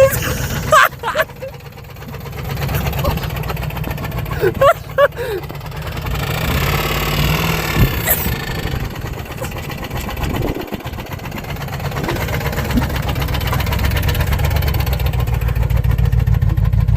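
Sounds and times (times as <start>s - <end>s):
car engine running: 0.0s - 16.9s
rapid regular engine knocking: 0.0s - 16.9s.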